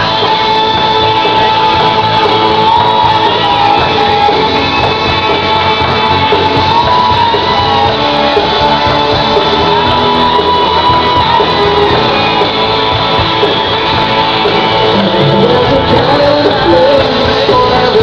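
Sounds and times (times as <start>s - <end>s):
loud music: 0.0s - 18.0s.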